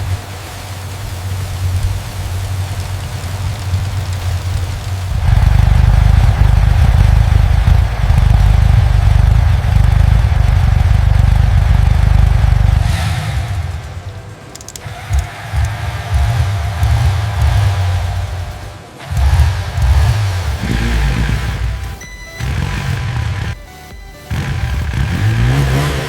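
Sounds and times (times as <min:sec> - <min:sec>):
motorcycle engine revving: 0:00.0 - 0:23.6, 0:24.2 - 0:26.0.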